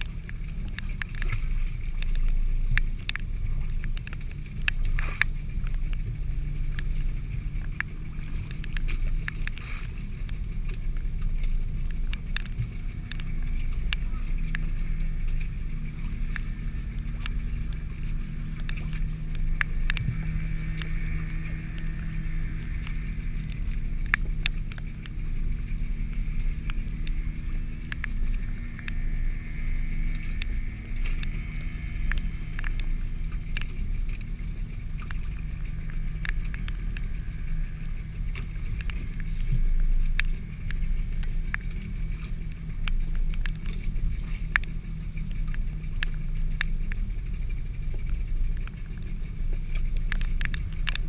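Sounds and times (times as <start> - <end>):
boat engine running at low revs: 0.0 - 51.0
sharp ticks and clicks: 0.0 - 51.0.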